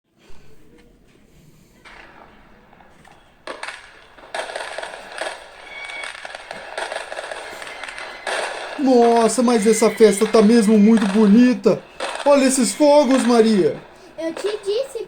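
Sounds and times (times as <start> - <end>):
fireworks crackling and popping: 1.8 - 15.0.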